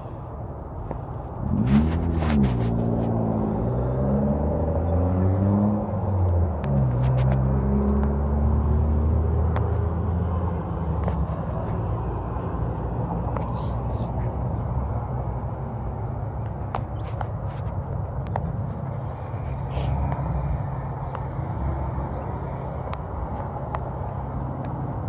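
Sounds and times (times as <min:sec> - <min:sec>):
vehicle engine accelerating through gears: 0:01.1 - 0:25.0.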